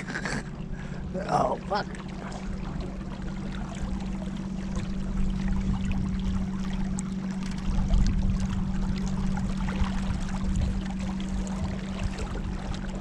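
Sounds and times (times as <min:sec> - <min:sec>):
low hum: 0:00.0 - 0:13.0
water splashing along kayak: 0:00.0 - 0:13.0.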